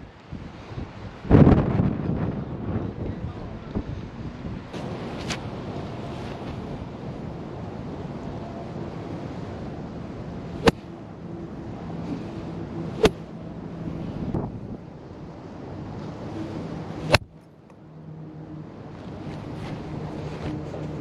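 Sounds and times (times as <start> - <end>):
wind on microphone: 0.0 - 17.4.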